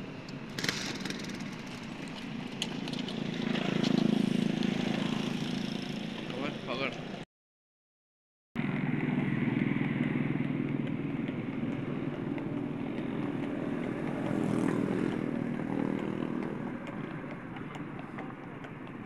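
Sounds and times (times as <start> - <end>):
road and wind noise: 0.0 - 7.2, 8.6 - 19.0
horse hooves and cart wheels: 0.2 - 7.2, 8.6 - 19.0
motorcycle engine cruising: 0.5 - 6.6, 8.6 - 19.0.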